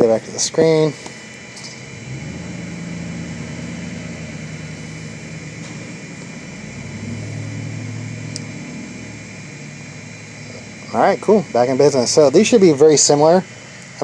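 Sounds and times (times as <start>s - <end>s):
cooling fans humming: 0.0s - 14.0s.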